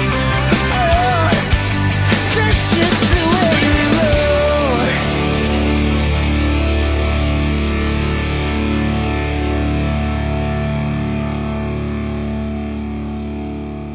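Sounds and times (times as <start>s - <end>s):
distorted electric guitar chords: 0.0s - 13.9s.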